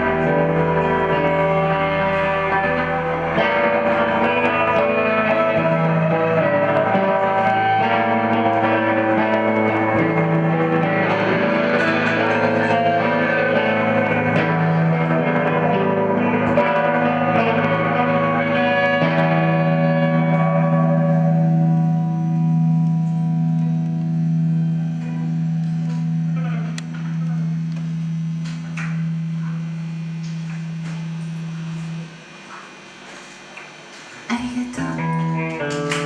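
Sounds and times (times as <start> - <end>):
electric guitar chords ringing: 0.0 - 33.7, 34.3 - 36.0.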